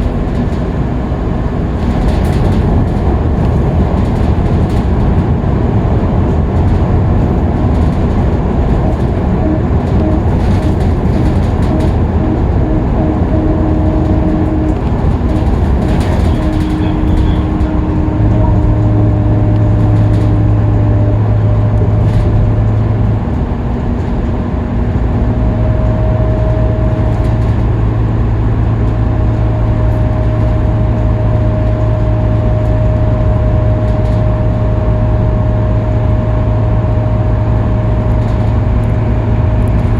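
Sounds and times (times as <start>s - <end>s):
bus engine rumble: 0.0s - 39.9s
road noise: 0.0s - 39.9s
strong low hum: 0.0s - 39.9s.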